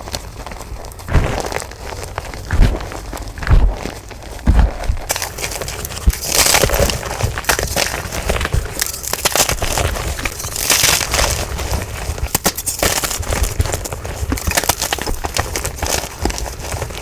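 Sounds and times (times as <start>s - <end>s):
chalk being crushed by hand: 0.0s - 17.0s.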